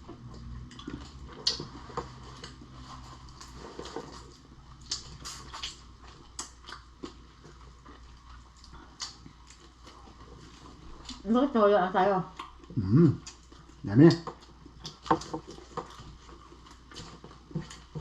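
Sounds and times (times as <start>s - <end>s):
chewing shrimp with crunches: 0.0s - 11.2s, 12.3s - 18.0s.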